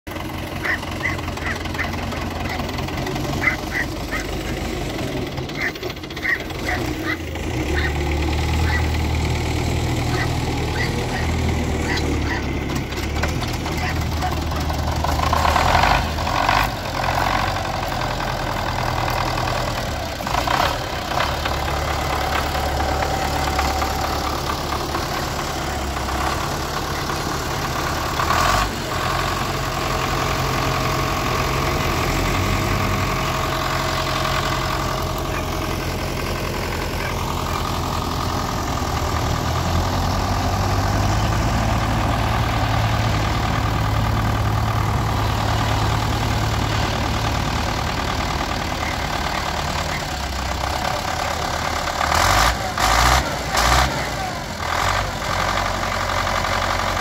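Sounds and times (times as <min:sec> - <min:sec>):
tractor diesel engines idling: 0:00.0 - 0:57.0.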